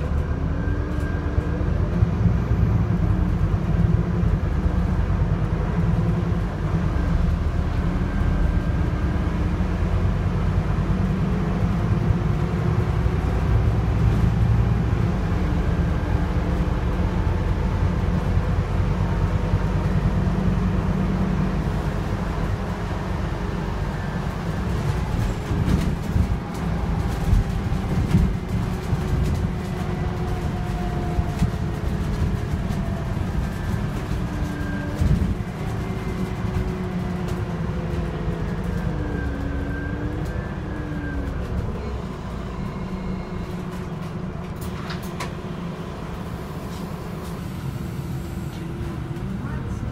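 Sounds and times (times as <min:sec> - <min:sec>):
bus engine low rumble: 0:00.0 - 0:49.9.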